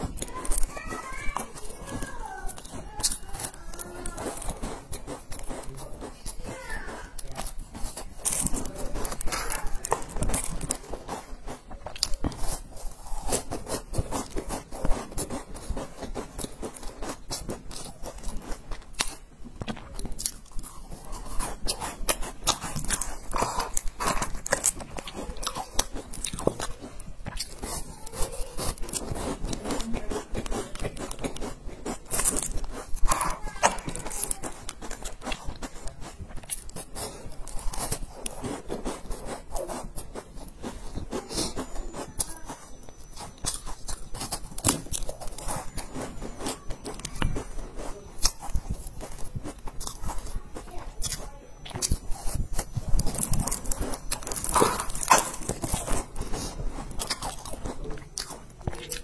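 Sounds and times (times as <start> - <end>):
chewing and crunching cookies: 0.0 - 59.0.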